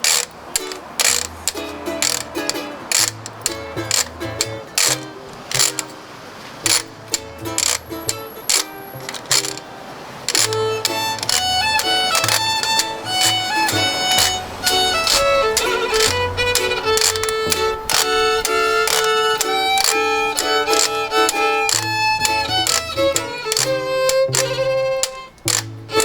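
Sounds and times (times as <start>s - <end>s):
fiddle melody: 0.0s - 26.0s
ukulele: 0.0s - 26.0s
washboard beat: 0.0s - 26.0s.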